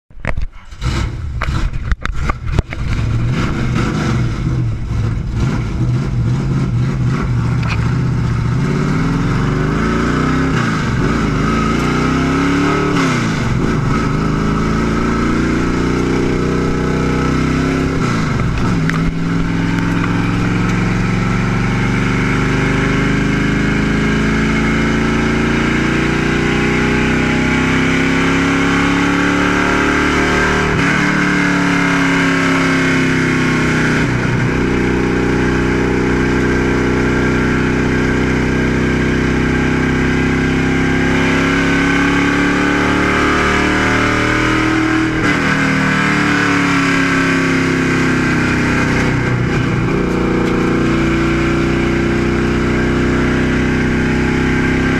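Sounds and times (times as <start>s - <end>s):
race car engine at speed: 0.1s - 54.9s.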